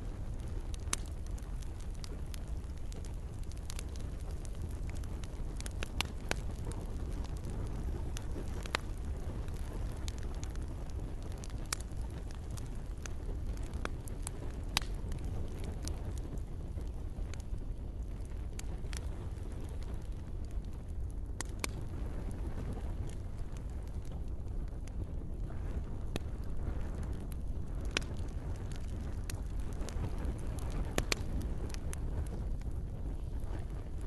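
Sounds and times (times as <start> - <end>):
campfire low rumble: 0.0 - 34.0
fire crackles and pops: 0.0 - 34.0.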